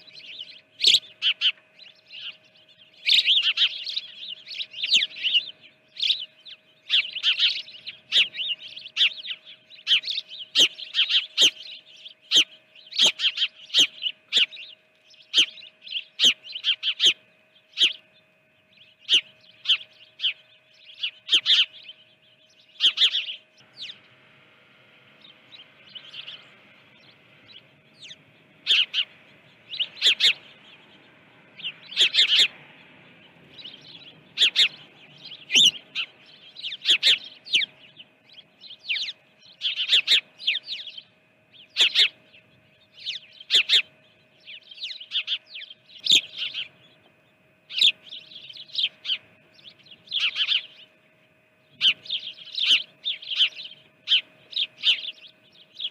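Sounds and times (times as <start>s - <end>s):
faint steady hum: 0.0s - 55.9s
small songbirds chirping: 0.0s - 55.9s.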